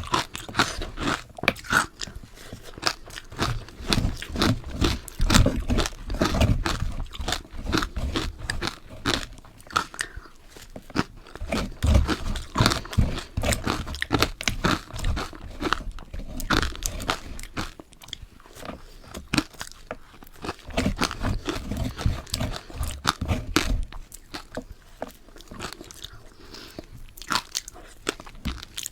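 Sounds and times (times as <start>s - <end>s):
chewing ice crunches: 0.0s - 28.9s.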